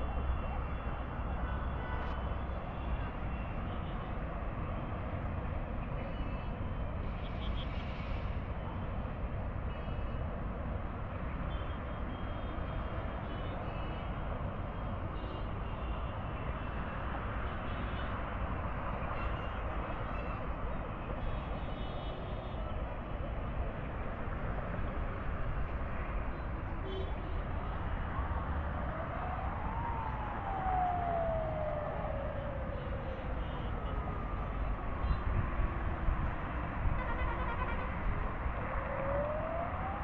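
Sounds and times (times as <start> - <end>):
distant expressway traffic: 0.0 - 40.0.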